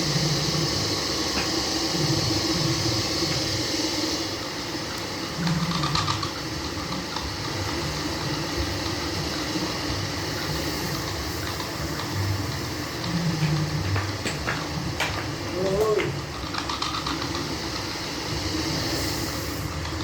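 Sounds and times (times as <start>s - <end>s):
lathe running with mechanical hum: 0.0s - 20.0s.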